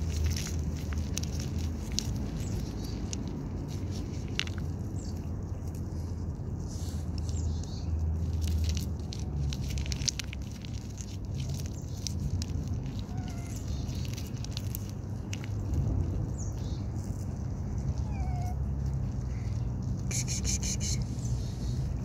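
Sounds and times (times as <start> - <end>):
foil pouch crinkling: 0.0 - 21.0
cat licking and chewing food: 0.0 - 22.0.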